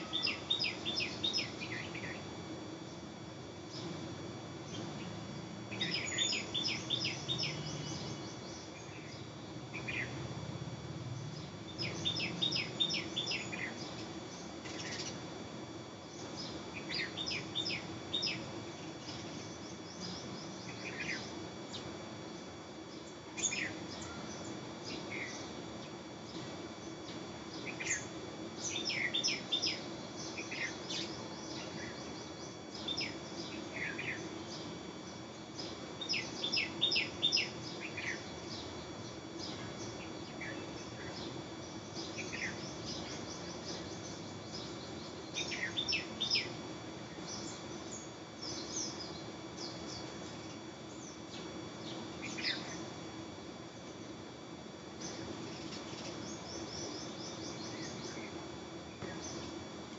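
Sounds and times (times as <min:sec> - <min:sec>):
faint high steady tones: 0:00.0 - 0:59.9
steady low hum: 0:00.0 - 0:59.9.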